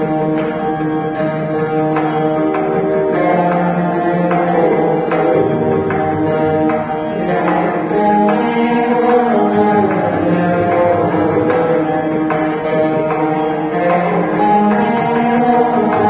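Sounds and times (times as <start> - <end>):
veena ensemble melody: 0.0 - 16.0.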